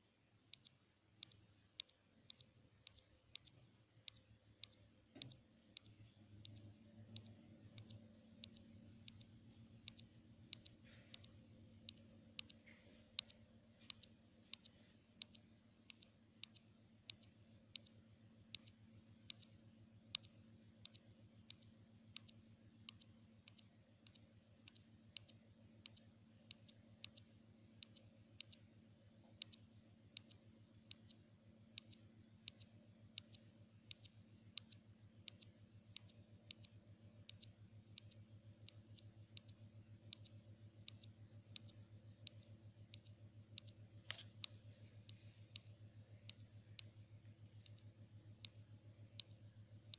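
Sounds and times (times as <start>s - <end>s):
faint low hum: 0.0s - 49.9s
finger tapping a touchscreen: 0.0s - 49.9s.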